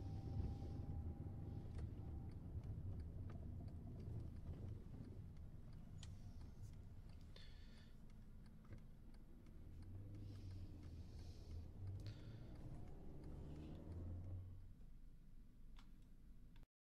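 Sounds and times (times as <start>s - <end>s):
light ticks and clicks: 1.6s - 14.7s, 15.7s - 16.7s.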